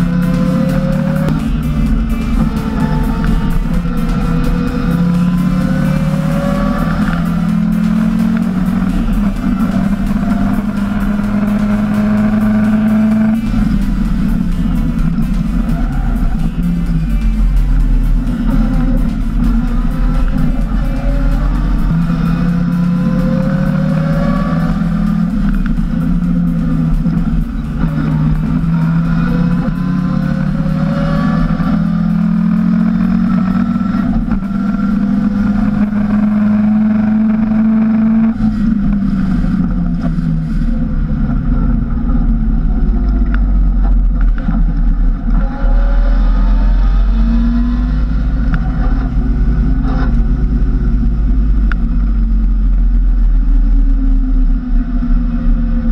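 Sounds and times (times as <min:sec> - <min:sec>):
racing engine revving: 0:00.0 - 0:55.9
road and wind noise: 0:00.0 - 0:55.9.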